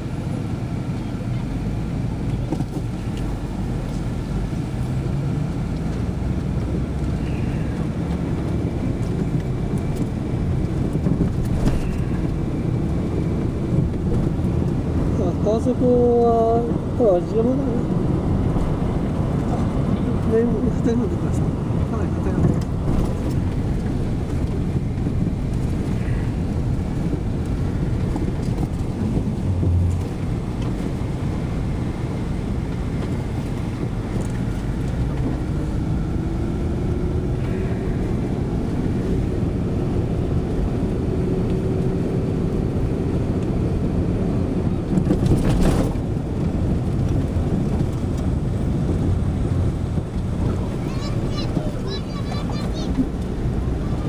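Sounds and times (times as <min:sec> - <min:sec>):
engine and tyre rumble: 0:00.0 - 0:54.0
wind noise: 0:00.0 - 0:54.0.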